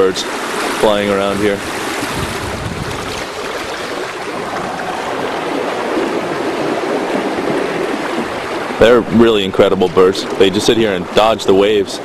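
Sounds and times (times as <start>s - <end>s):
water rushing along hulls: 0.0s - 12.0s.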